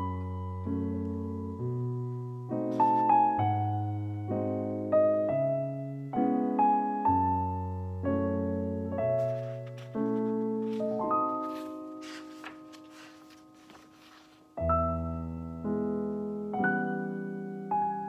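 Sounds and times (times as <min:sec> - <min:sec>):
slow solo piano music: 0:00.0 - 0:18.0.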